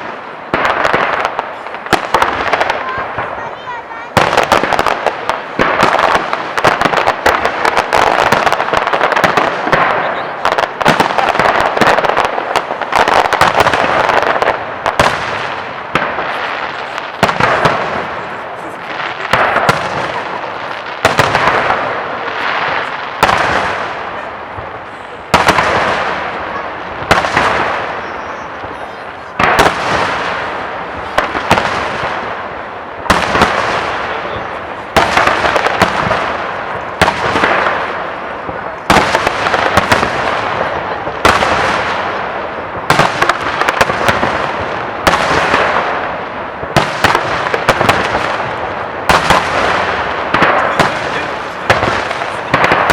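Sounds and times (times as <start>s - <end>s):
fireworks bursting with echo: 0.0s - 52.9s.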